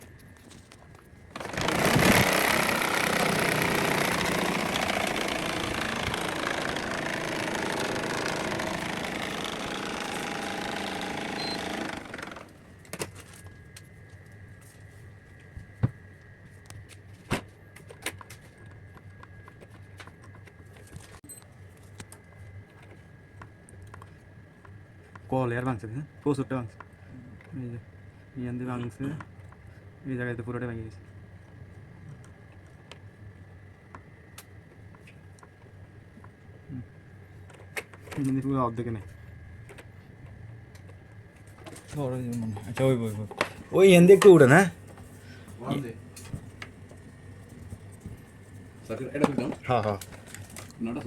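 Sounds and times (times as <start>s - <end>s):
air conditioner blower rough noise: 0.0s - 51.0s.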